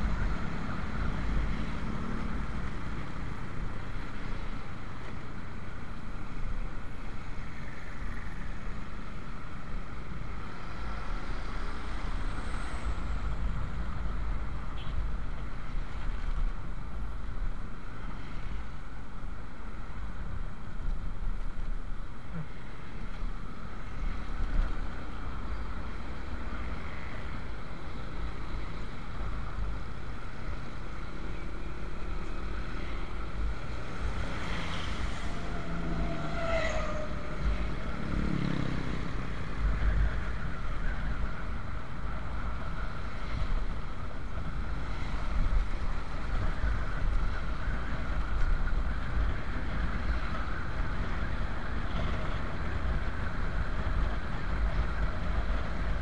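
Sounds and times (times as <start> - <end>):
passing vehicle: 0.0 - 56.0.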